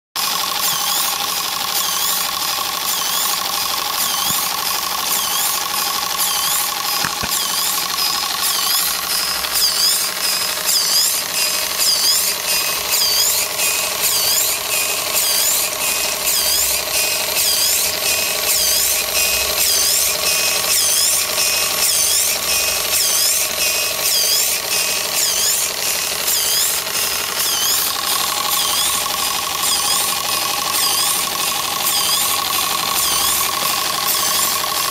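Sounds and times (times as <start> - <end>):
pump steady whine: 0.2 - 34.9
small water pump squeaky chirping: 0.2 - 34.9.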